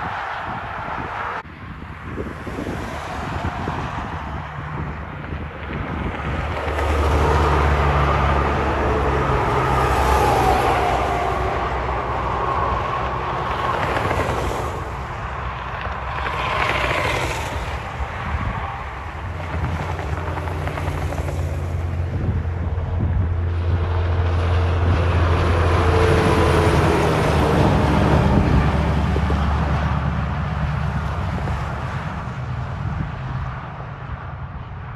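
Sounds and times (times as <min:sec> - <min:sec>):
tyre and road rush: 0:00.0 - 0:34.9
truck engine drone: 0:03.7 - 0:34.9.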